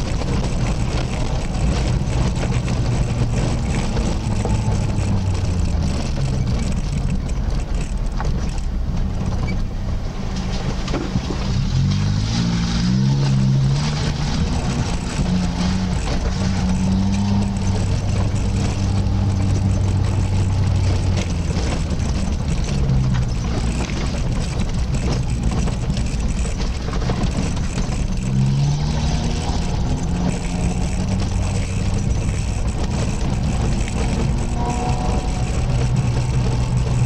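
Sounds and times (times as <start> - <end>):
tyres on loose gravel: 0.0 - 37.0
vehicle engine at low revs: 0.0 - 37.0.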